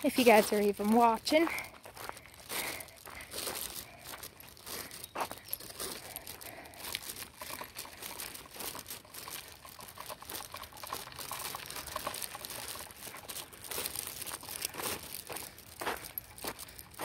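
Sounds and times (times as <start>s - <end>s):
footsteps crunching underfoot: 0.0s - 17.0s.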